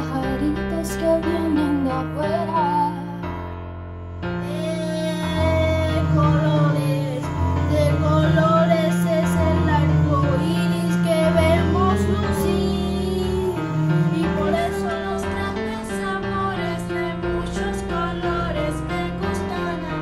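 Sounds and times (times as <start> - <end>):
child singing: 0.0 - 3.2, 4.4 - 20.0
instrumental accompaniment: 0.0 - 20.0
steady bass line: 2.0 - 20.0.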